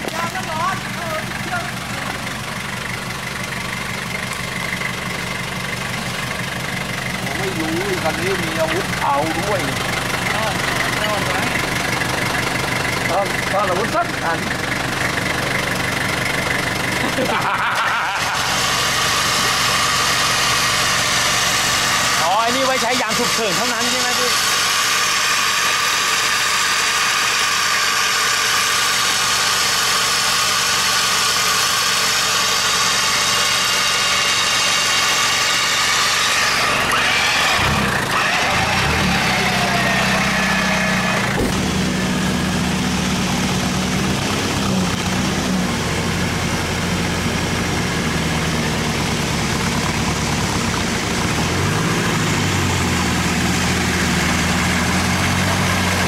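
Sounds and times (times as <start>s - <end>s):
low engine drone: 0.0s - 56.0s
off-road engine running: 0.0s - 56.0s.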